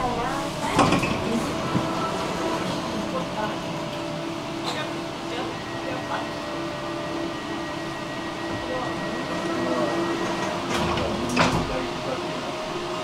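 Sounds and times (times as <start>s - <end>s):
tram electric drive hum: 0.0s - 13.0s.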